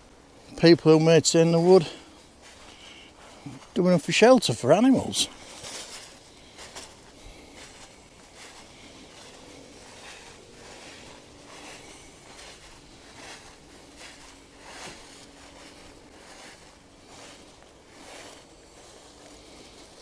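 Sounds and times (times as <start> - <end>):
footsteps in fallen leaves: 0.3 - 20.0.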